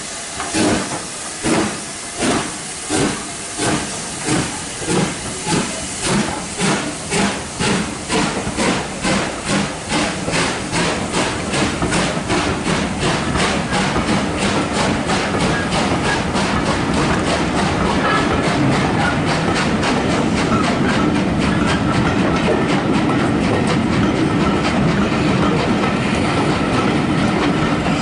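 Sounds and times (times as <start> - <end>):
steam hissing: 0.0 - 28.0
steam locomotive exhaust beats: 0.0 - 28.0.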